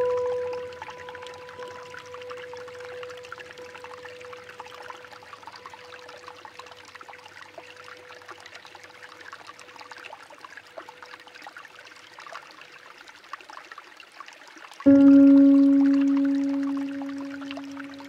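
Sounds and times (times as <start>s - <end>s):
faint steady tone: 0.0s - 12.2s, 14.9s - 18.0s
small drips and splashes: 0.0s - 18.0s
water trickling and lapping: 0.0s - 18.0s.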